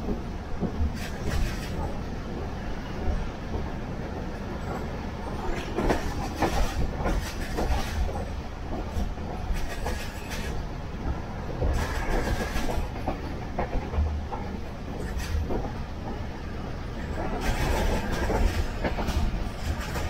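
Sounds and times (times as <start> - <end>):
train rumble inside a carriage: 0.0 - 20.0
wheels clickety-clack over rail joints: 0.0 - 20.0.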